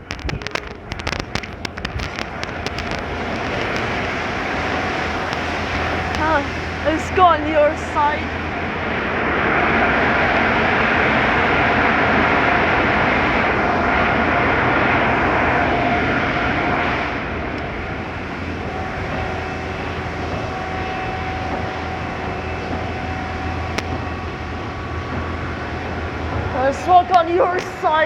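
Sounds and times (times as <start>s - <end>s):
car wash spray rushing: 0.4s - 28.0s.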